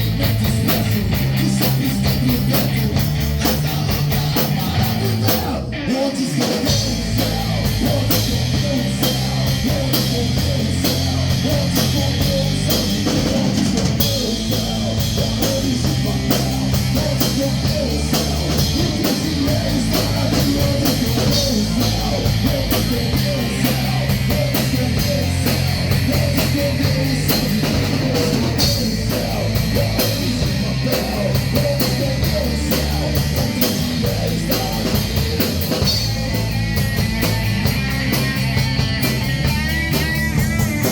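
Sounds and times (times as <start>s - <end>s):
hard rock band playing live: 0.0s - 40.9s.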